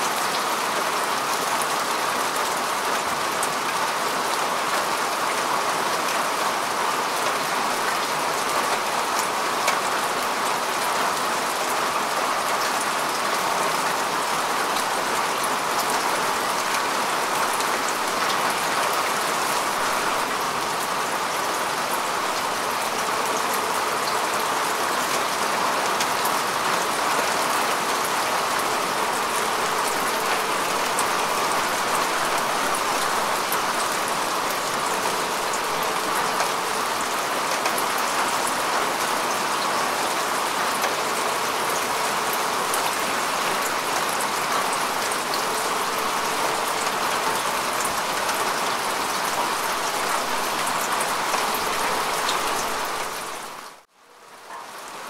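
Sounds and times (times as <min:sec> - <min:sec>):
rain falling on grass: 0:00.0 - 0:55.0.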